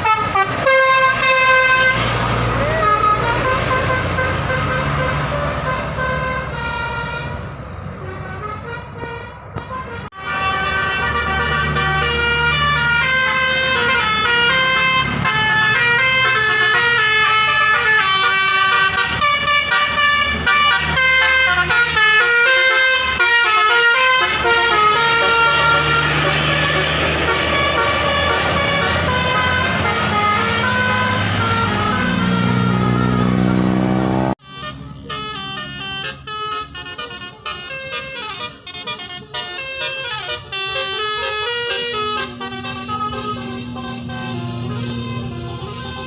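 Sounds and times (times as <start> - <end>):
bus horn playing melody: 0.0 - 46.0.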